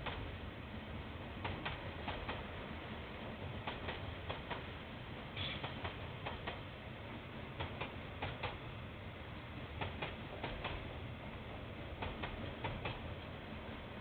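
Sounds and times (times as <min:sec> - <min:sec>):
low hiss and hum: 0:00.0 - 0:14.0.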